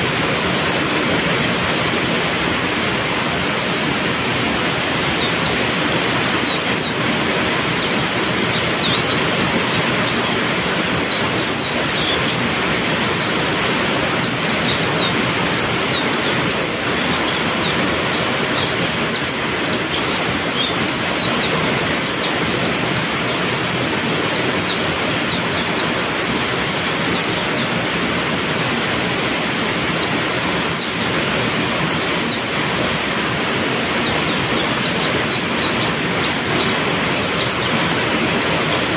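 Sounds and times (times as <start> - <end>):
heavy rain falling: 0.0 - 38.9
songbirds chirping: 0.0 - 38.9.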